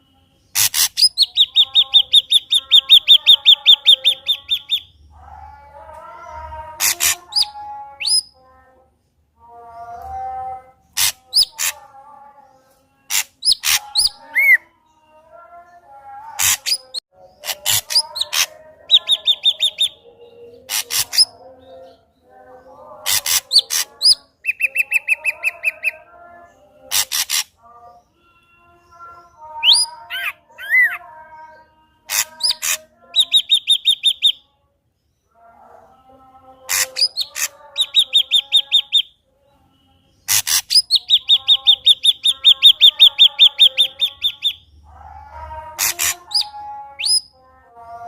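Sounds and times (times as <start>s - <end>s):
bird singing varied song: 0.0s - 48.0s.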